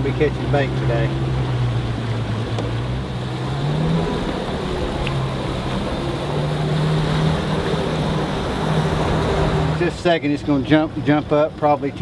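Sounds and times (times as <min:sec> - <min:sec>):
boat motor running: 0:00.0 - 0:12.0
hull moving through water: 0:00.0 - 0:12.0.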